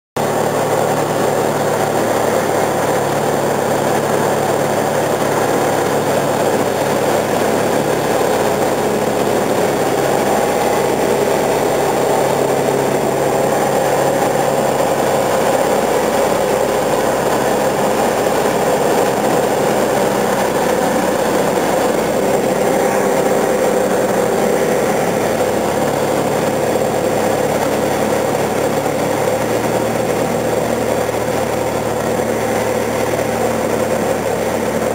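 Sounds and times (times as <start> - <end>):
light aircraft engine drone: 0.2 - 34.9.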